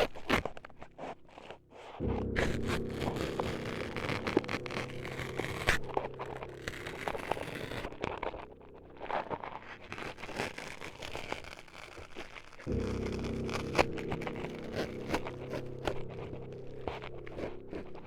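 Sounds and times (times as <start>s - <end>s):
small clicks and crackles: 0.0s - 18.0s
low steady drone: 1.5s - 11.4s, 12.7s - 18.0s.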